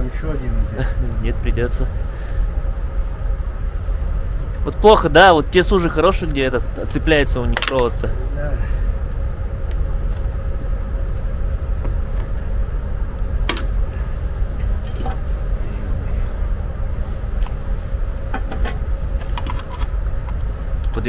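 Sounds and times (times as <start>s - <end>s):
low rumble and hum: 0.0s - 21.0s.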